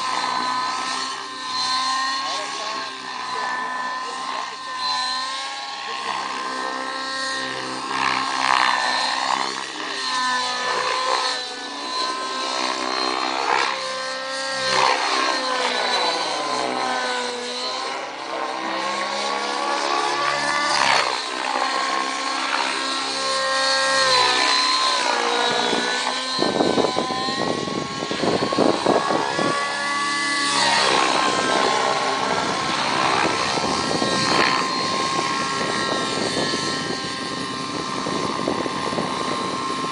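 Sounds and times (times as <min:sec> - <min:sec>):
rc helicopter engine and rotor whine: 0:00.0 - 0:39.9.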